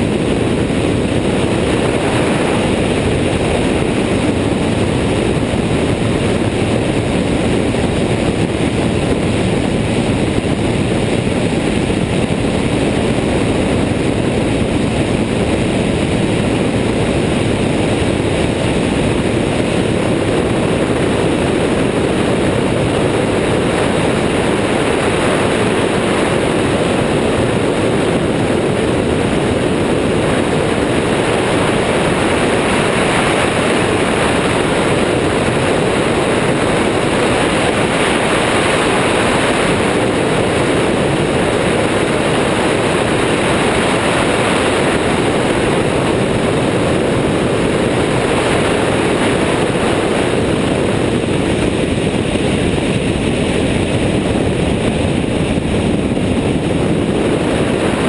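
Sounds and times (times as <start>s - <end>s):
ultralight engine and propeller: 0.0s - 58.0s
wind rushing over microphone: 0.0s - 58.0s.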